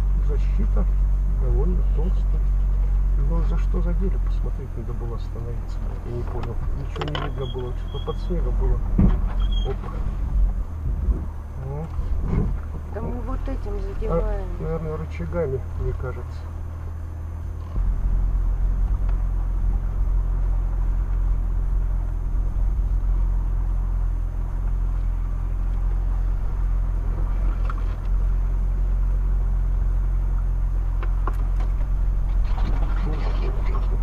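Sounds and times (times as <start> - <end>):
car engine running under load: 0.0 - 34.0.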